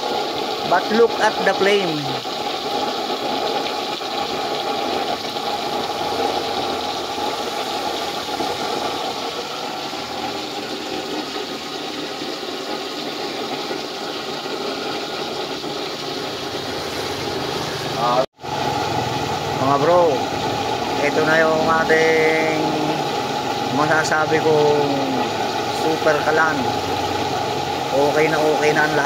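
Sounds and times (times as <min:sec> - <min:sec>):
stove flame rushing: 0:00.0 - 0:29.0.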